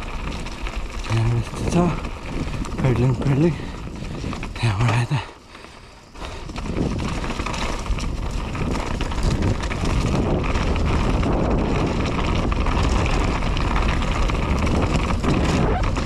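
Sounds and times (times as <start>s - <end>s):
mountain bike rumble and rattle: 0.0s - 16.0s
wind buffeting microphone: 0.0s - 16.0s.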